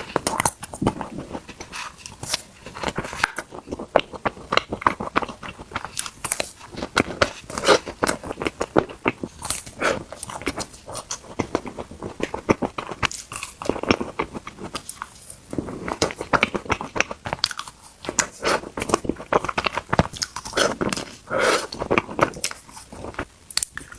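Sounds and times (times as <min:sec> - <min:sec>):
ice cream crunching: 0:00.0 - 0:23.9.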